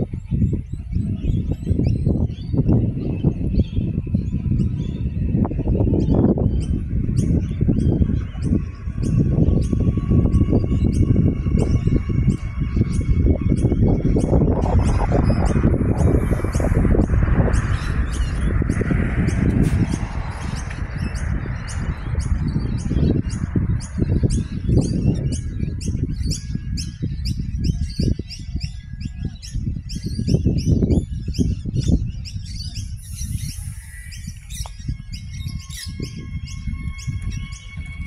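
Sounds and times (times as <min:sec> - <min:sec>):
steady hum: 0:00.0 - 0:28.2, 0:32.9 - 0:38.0
birds chirping: 0:00.0 - 0:38.0
wind rumble on microphone: 0:00.0 - 0:38.0.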